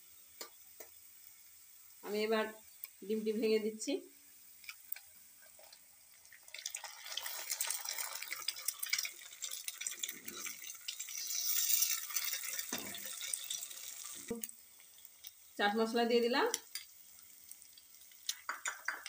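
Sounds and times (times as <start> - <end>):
egg sizzling in hot oil: 0.0 - 19.0.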